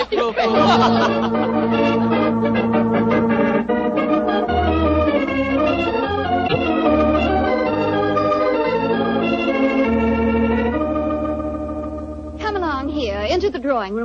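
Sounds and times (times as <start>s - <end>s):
organ chords: 0.1s - 14.0s.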